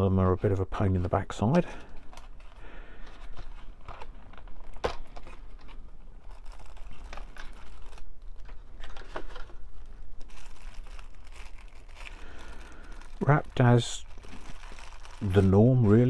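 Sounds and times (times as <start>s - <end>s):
plastic packaging crinkling: 0.4s - 16.0s.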